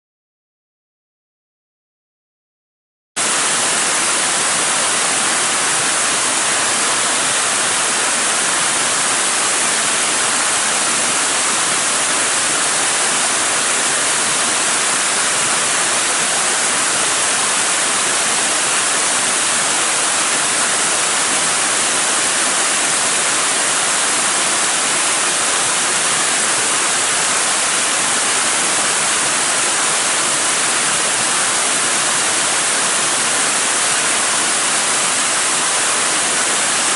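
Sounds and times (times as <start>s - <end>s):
waterfall rushing: 3.2s - 36.9s.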